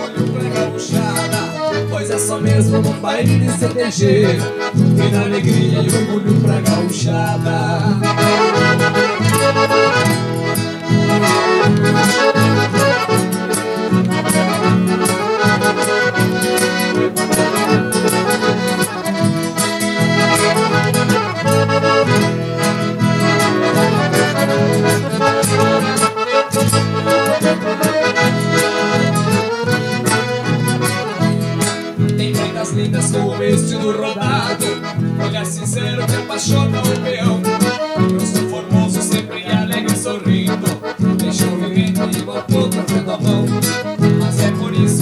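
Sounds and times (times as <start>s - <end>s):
accordion melody: 0.0s - 45.0s
bass and rhythm accompaniment: 0.0s - 45.0s.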